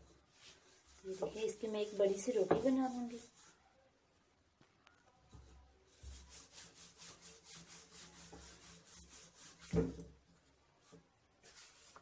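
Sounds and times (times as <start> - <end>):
rolling pin rolling dough on board: 0.0 - 3.5, 5.3 - 12.0.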